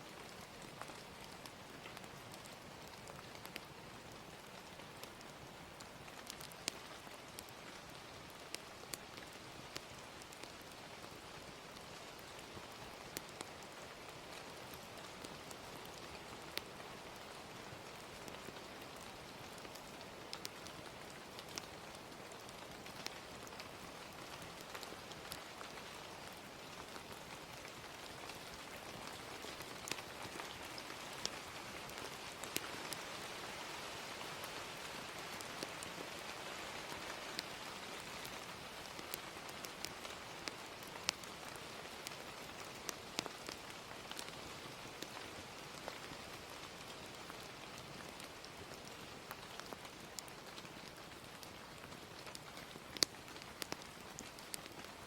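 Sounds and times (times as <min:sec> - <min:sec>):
gentle rain falling: 0:00.0 - 0:55.0
wood fire crackling: 0:00.1 - 0:55.0.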